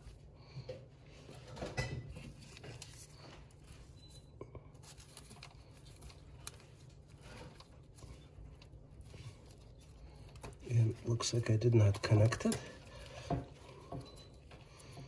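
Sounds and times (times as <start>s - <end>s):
wires rustling and clicking: 1.0s - 15.0s.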